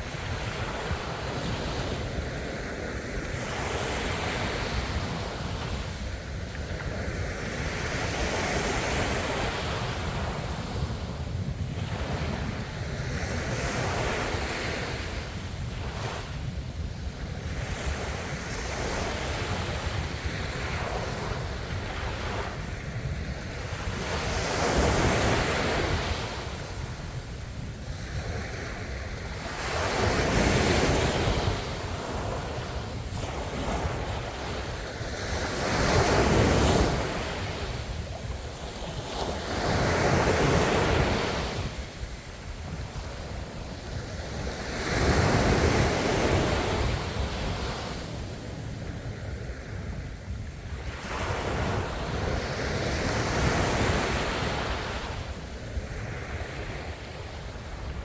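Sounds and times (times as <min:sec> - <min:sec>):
ocean waves breaking on shore: 0:00.0 - 0:58.0
wind rumble on microphone: 0:00.0 - 0:58.0.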